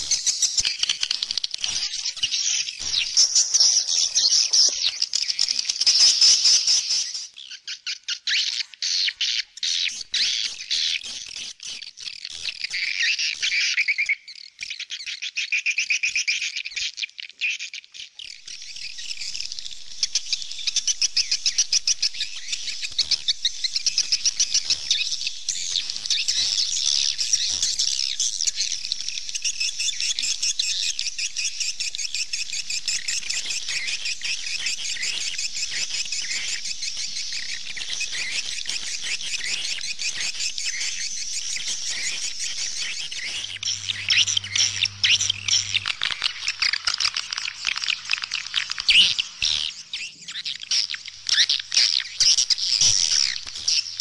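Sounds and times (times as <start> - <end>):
swallows twittering: 0.0 - 16.5, 18.1 - 54.0.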